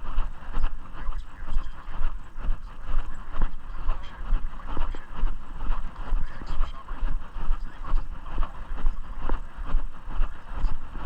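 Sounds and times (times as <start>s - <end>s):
heavy low rumble: 0.0s - 11.0s.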